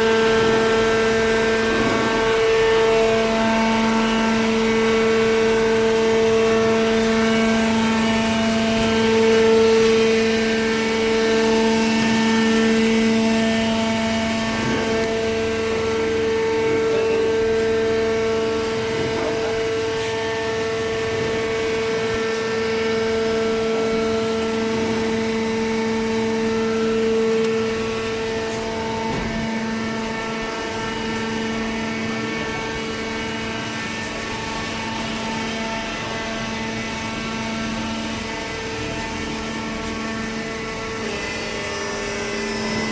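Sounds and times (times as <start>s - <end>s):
hydraulic pump hum and whine: 0.0s - 42.9s.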